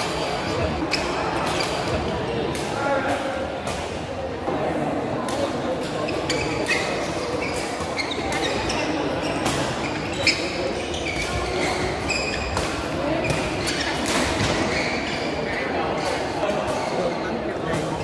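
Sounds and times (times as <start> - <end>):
court shoes squeaking: 0.0 - 2.6, 5.3 - 18.0.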